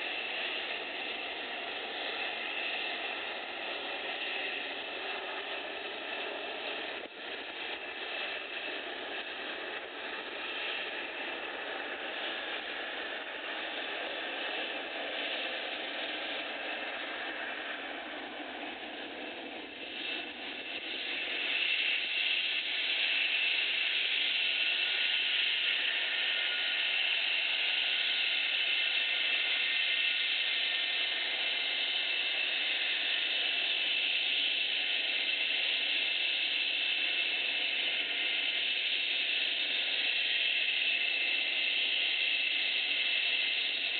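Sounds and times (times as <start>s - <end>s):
jet engines with high whine: 0.0s - 43.9s.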